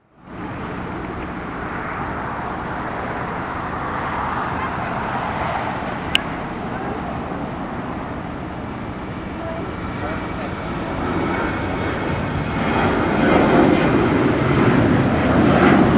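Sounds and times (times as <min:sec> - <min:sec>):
vehicle noise: 0:00.0 - 0:15.9.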